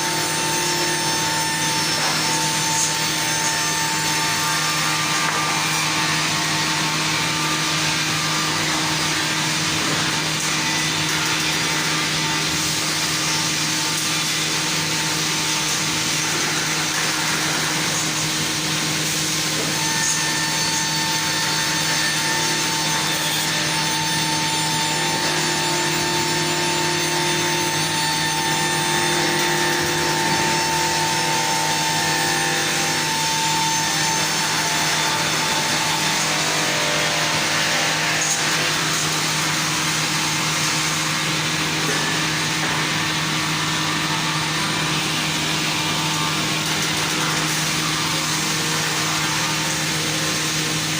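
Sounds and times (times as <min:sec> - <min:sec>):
sawmill sawing wood: 0:00.0 - 0:50.9.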